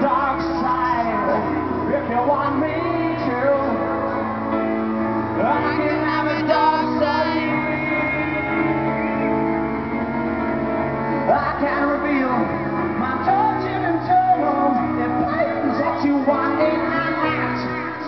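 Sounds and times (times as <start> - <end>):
man singing: 0.0 - 4.6, 5.2 - 9.8, 11.1 - 18.0
live piano rock song: 0.0 - 18.0.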